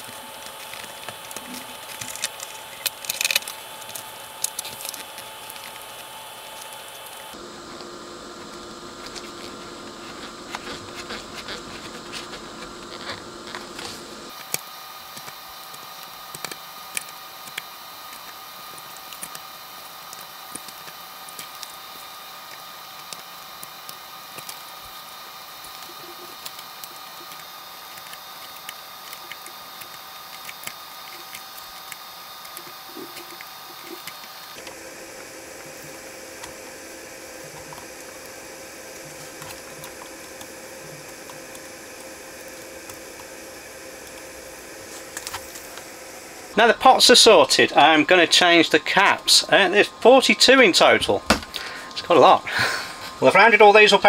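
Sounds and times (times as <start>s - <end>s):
steady hum and hiss: 0.0s - 54.0s.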